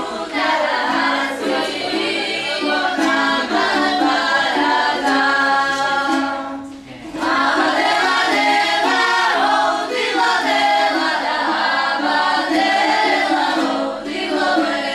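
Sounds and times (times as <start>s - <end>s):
choir singing: 0.0s - 14.9s.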